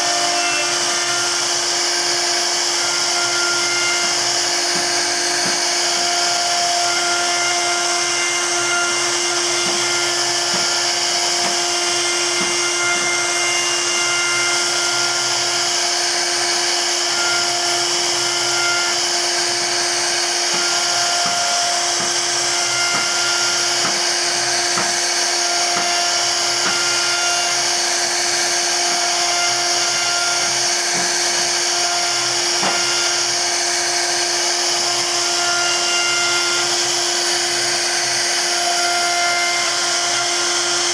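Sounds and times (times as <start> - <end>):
router bit cutting wood hiss: 0.0 - 40.9
router spindle whining: 0.0 - 40.9.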